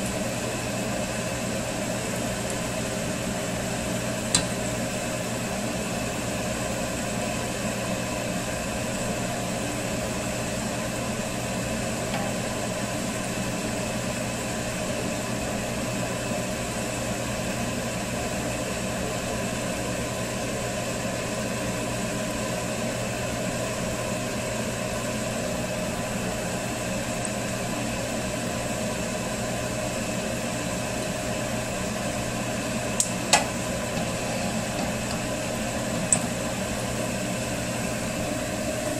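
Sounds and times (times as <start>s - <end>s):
oil sizzling deep-frying: 0.0s - 18.3s, 20.4s - 38.9s
mechanical hum: 0.0s - 38.9s.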